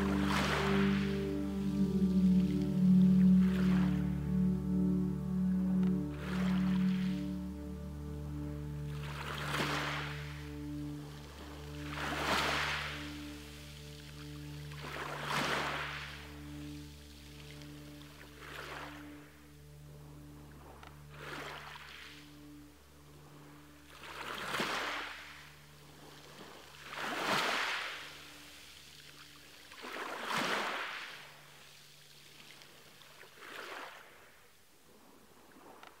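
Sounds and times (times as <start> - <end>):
small waves washing ashore: 0.0 - 4.0, 8.9 - 22.5, 23.2 - 36.0
low musical drone: 0.0 - 32.4.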